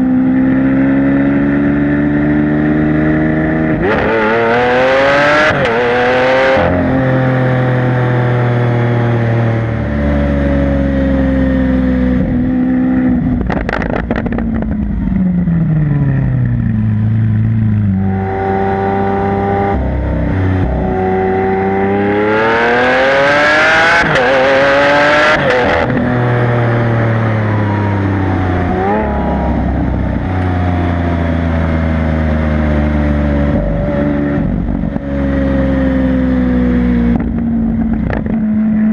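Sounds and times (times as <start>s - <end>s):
sports car engine revving: 0.0s - 38.9s.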